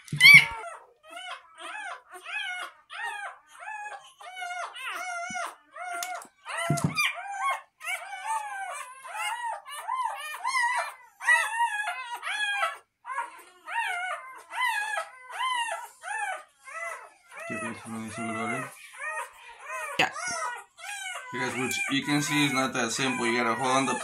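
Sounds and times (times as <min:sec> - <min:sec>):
puppy crying in high squeals: 0:00.0 - 0:24.0.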